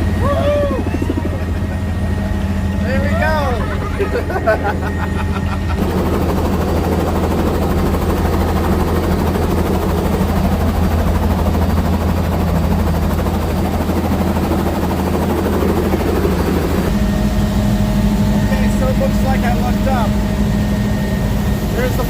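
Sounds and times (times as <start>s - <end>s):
helicopter drone inside cabin: 0.0s - 22.0s.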